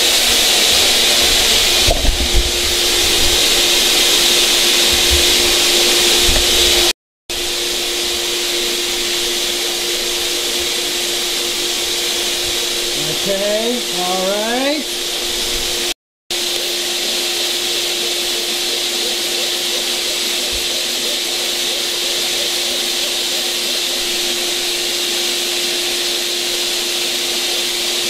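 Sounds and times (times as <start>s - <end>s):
vacuum cleaner motor running: 0.0s - 28.0s.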